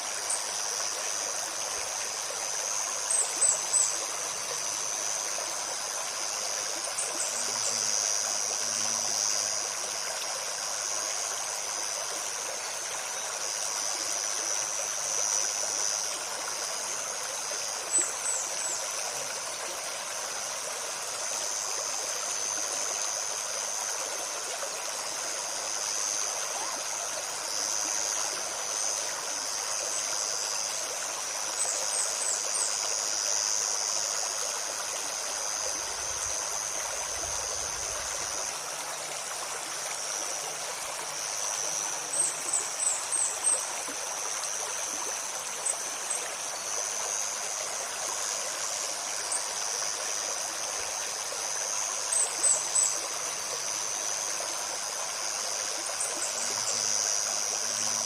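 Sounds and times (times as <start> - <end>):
high-pitched insect buzz: 0.0 - 58.0
stream babbling: 0.0 - 58.0.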